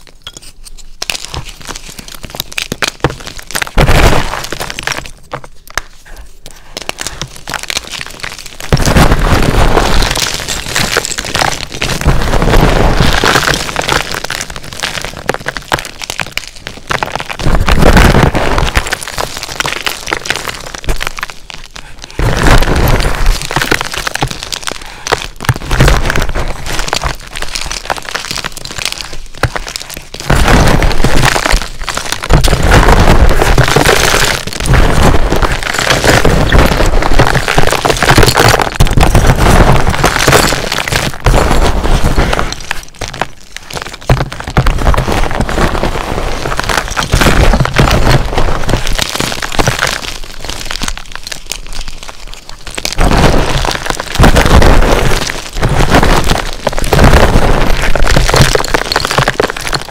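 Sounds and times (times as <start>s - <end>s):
chalk being crushed by hand: 0.0s - 59.9s.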